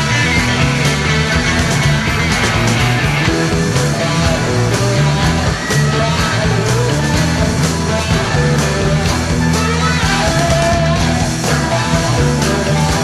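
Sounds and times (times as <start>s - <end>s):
bass and drums with steady beat: 0.0s - 13.0s
electric guitar: 0.0s - 13.0s.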